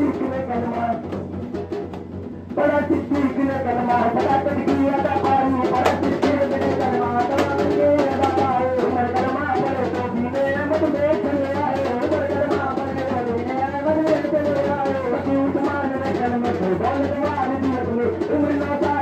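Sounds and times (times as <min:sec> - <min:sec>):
man singing: 0:00.0 - 0:01.2, 0:02.6 - 0:19.0
frame drums beaten in rhythm: 0:00.0 - 0:19.0.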